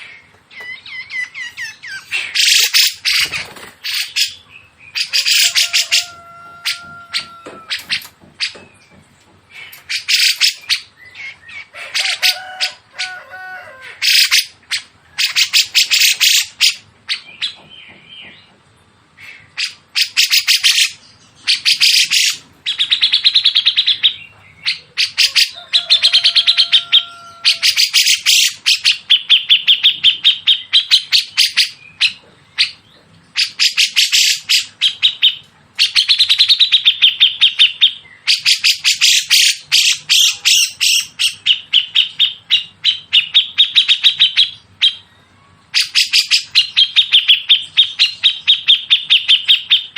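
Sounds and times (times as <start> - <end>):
songbirds stuttering chatter: 0.0 - 49.9.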